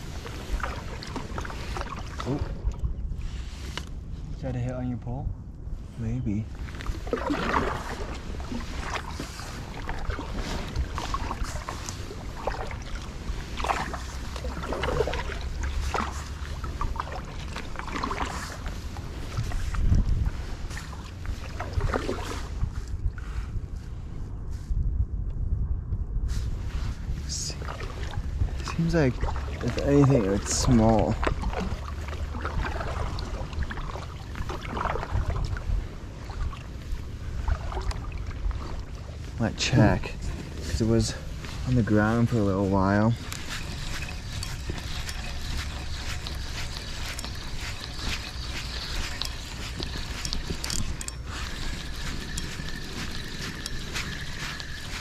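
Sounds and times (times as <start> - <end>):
water splashing around kayak: 0.0 - 4.2, 6.5 - 23.5, 26.5 - 55.0
wind rumble on microphone: 0.0 - 55.0.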